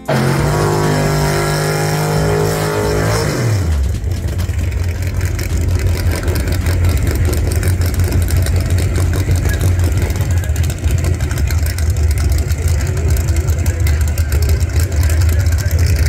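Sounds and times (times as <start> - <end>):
drag car engine revving and idling: 0.0 - 16.0.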